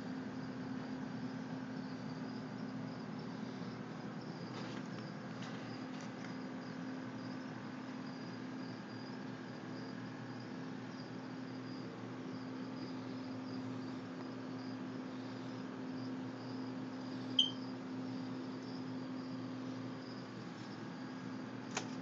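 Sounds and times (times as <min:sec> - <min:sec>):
crickets chirping: 0:00.0 - 0:22.0
filter pump hum: 0:00.0 - 0:22.0.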